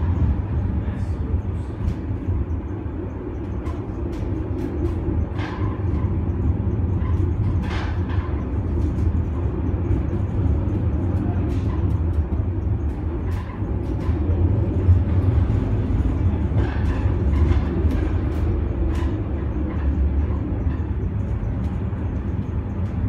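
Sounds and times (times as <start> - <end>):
train rumbling in tunnel: 0.0 - 23.0.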